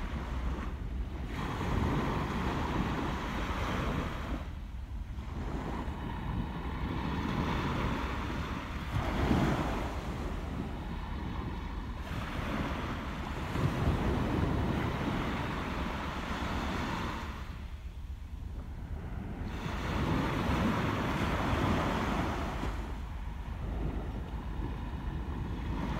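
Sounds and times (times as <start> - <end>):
sea waves washing: 0.0 - 25.9
wind rumbling on microphone: 0.0 - 25.9.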